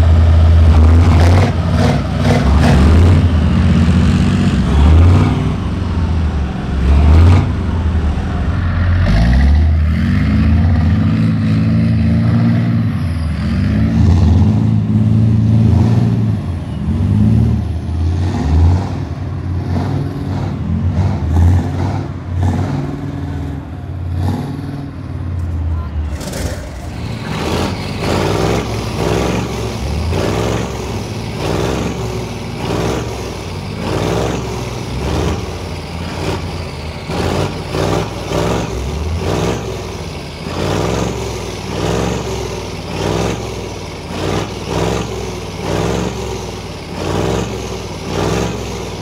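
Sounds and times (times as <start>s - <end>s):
diesel engines revving: 0.0s - 49.0s.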